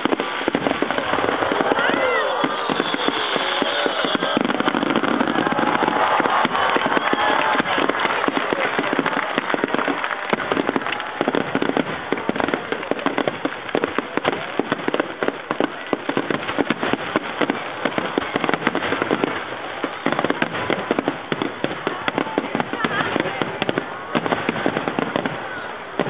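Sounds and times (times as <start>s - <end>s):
firework shells bursting: 0.0s - 25.5s
crackling pops: 0.0s - 26.0s.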